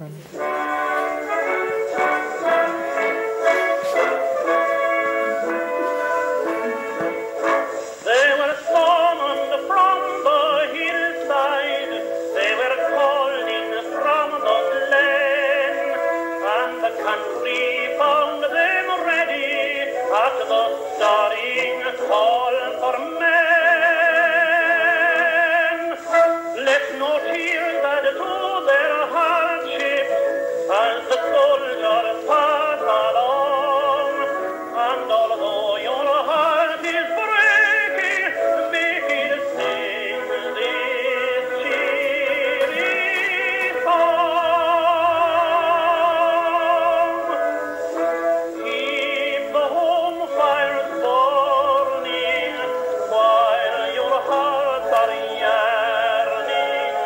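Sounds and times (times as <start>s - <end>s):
instrumental accompaniment: 0.0s - 57.0s
person singing: 0.0s - 57.0s.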